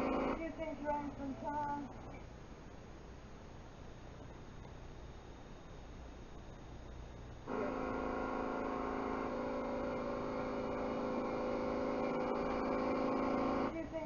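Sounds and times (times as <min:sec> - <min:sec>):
steady multi-pitch hum: 0:00.0 - 0:14.0.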